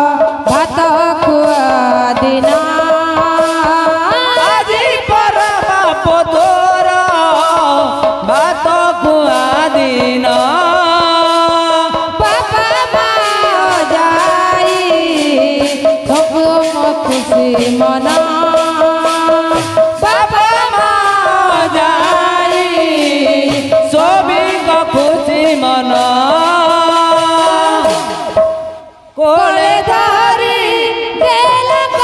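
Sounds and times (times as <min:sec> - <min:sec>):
hand-played barrel drum: 0:00.0 - 0:32.0
woman singing into a microphone: 0:00.0 - 0:32.0.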